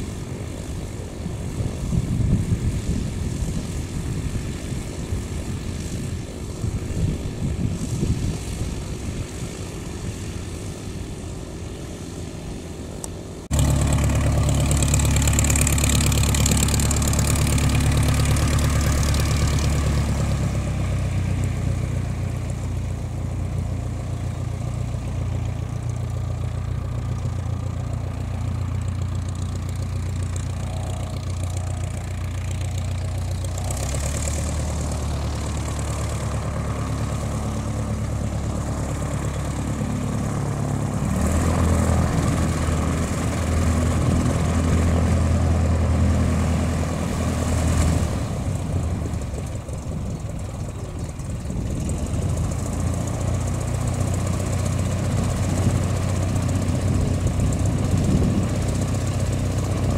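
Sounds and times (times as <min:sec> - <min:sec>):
propeller aircraft engines idling: 0:00.0 - 0:59.9.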